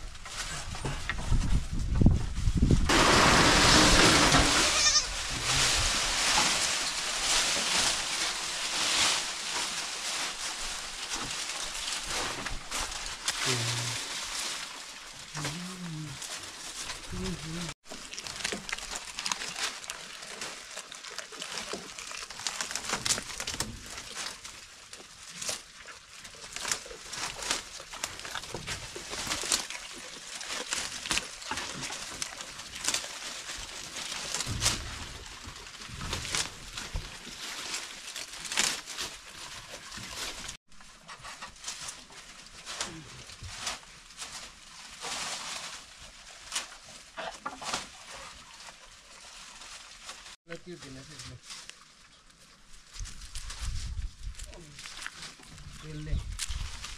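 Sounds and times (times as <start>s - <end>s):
goats chewing leaves: 0.0s - 56.9s
leaves rustling and crackling: 0.0s - 56.9s.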